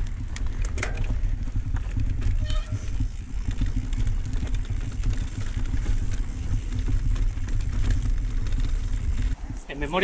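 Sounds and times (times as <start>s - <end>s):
bike rattles and knocks: 0.0s - 10.0s
bike tyre noise on dirt: 0.0s - 10.0s
wind rumbling on microphone: 0.0s - 10.0s.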